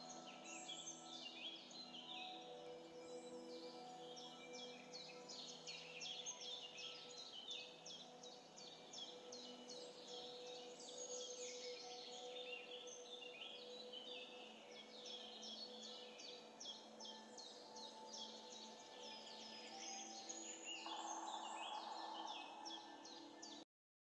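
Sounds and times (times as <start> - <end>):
small birds chirping: 0.0 - 23.6.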